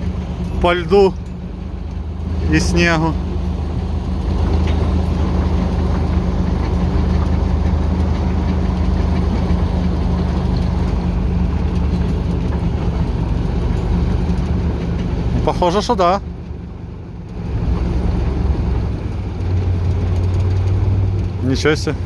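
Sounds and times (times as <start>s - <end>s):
diesel locomotive engine droning: 0.0s - 22.0s.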